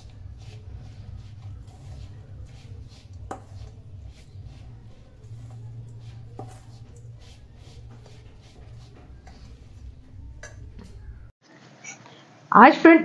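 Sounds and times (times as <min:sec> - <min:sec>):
spoon scraping in a metal bowl: 0:00.0 - 0:11.3
steady low hum: 0:00.0 - 0:11.3.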